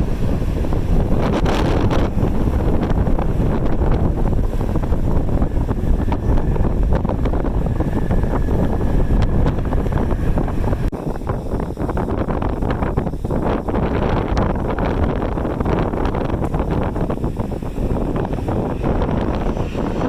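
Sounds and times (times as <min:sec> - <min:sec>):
faint high whine: 0:00.0 - 0:20.0
gusty wind buffeting microphone: 0:00.0 - 0:20.0.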